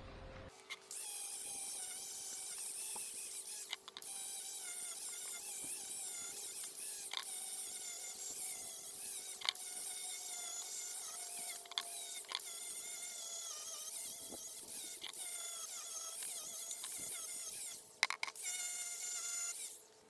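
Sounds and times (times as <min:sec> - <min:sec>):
power tool whining: 0:00.5 - 0:19.9.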